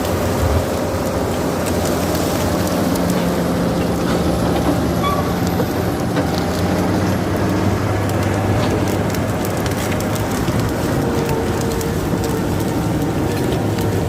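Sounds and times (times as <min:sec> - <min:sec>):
bulldozer diesel engine: 0:00.0 - 0:14.0
crackling and clicks: 0:00.0 - 0:14.0.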